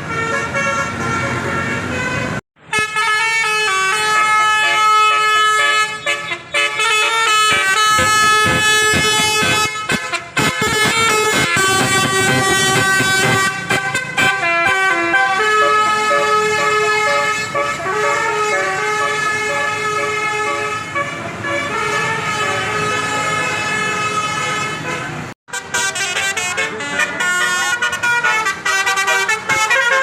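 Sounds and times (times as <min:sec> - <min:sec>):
multi-tone bus horn tune: 0:00.0 - 0:30.0.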